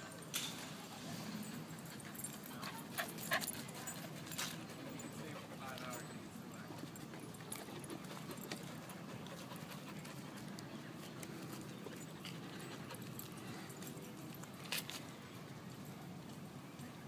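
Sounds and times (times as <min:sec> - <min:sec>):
dogs panting: 0:00.8 - 0:14.6.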